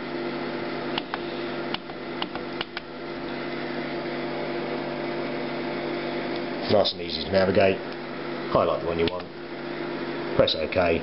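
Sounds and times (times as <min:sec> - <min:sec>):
printer humming: 0:00.0 - 0:11.0.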